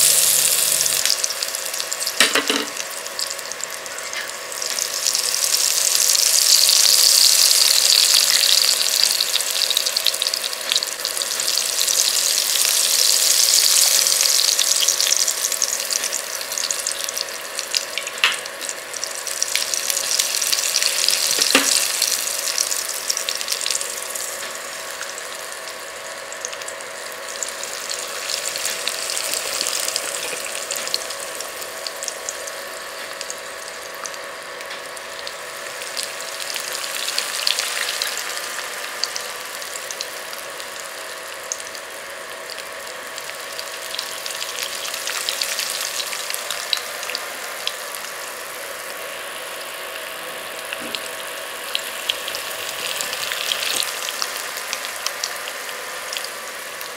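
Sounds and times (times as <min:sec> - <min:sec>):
faint steady hum: 0:00.0 - 0:56.9
food sizzling and crackling in oil: 0:00.0 - 0:56.9.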